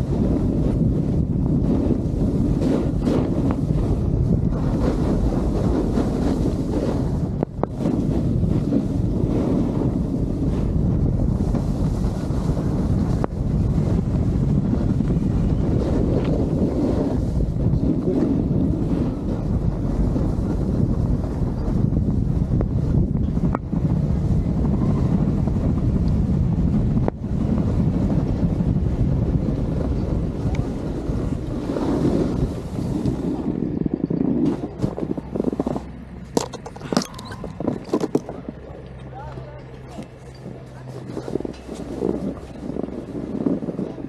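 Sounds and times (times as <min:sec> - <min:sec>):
snowboard sliding over snow: 0:00.0 - 0:35.8, 0:41.0 - 0:43.9
wind rushing over microphone: 0:00.0 - 0:44.0.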